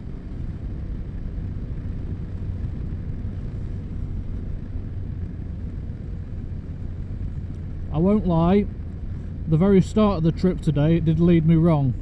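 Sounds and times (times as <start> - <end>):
motorcycle engine drone: 0.0 - 12.0
wind and road rush: 0.0 - 12.0.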